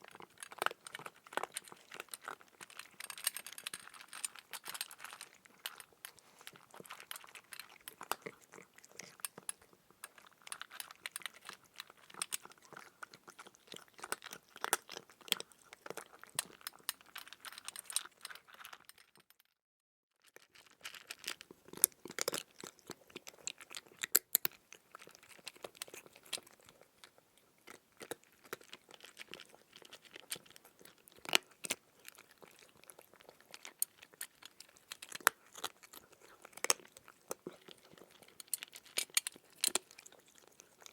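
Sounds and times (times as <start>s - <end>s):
crunching chewing: 0.0s - 19.2s, 20.3s - 40.9s.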